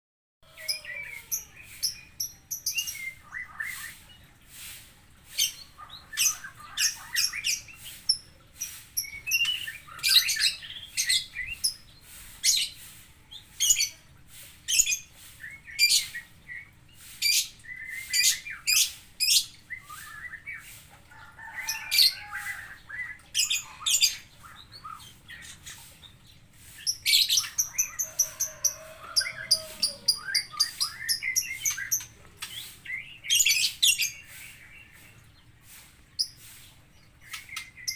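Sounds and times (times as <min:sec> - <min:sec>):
songbird singing: 0:00.4 - 0:14.1, 0:14.7 - 0:37.9.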